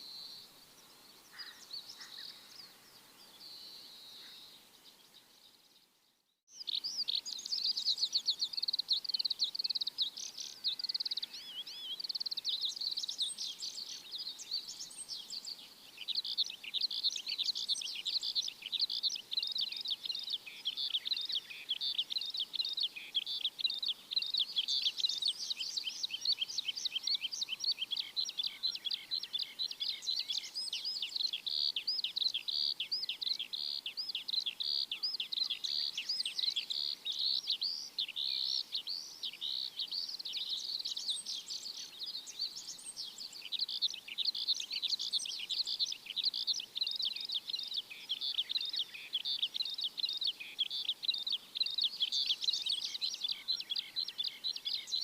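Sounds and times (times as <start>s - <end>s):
birds chirping chorus: 0.0s - 55.0s.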